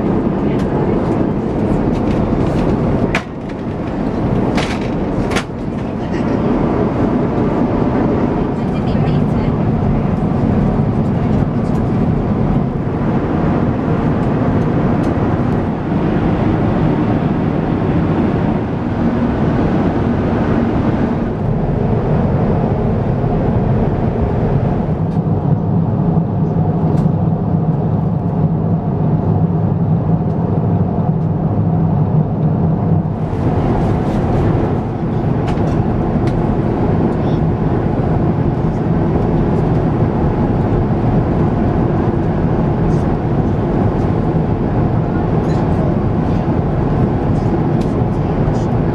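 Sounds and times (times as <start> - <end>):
airliner cabin airflow and engine noise: 0.0 - 48.9.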